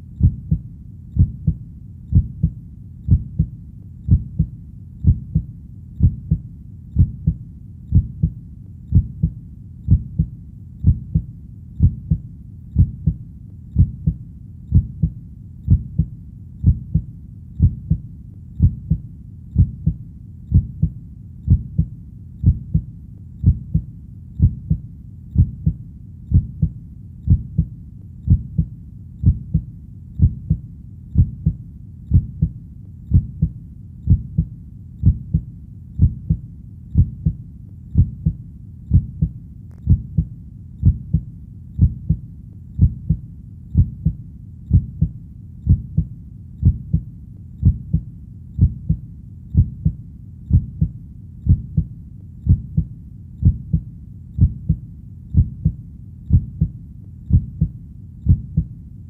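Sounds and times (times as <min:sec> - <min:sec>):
heartbeat thumps: 0:00.0 - 0:58.8.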